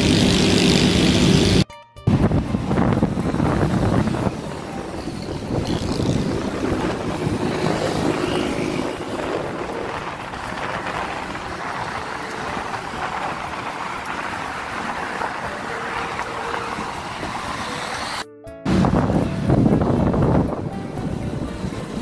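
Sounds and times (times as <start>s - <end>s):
road and wind noise: 0.0s - 22.0s
traffic passing: 0.0s - 22.0s.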